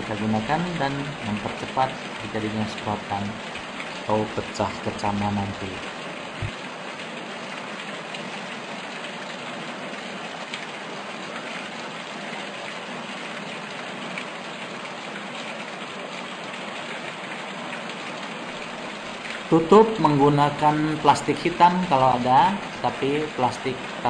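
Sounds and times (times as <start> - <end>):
water sprinkling: 0.0 - 24.0.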